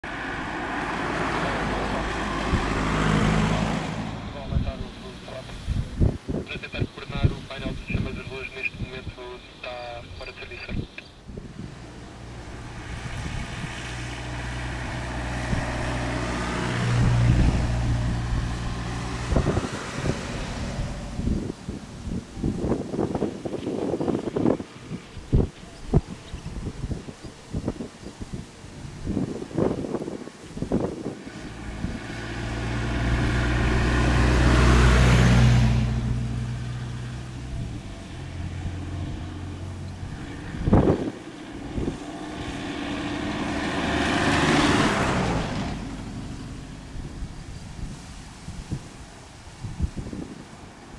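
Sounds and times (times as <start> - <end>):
wind buffeting microphone: 0.0 - 9.4, 10.0 - 50.9
engine hum with rushing hiss: 0.0 - 50.9.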